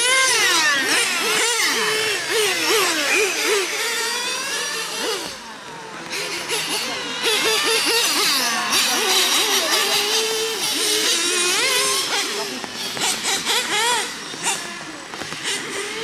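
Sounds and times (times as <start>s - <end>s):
model car engines revving: 0.0s - 16.0s.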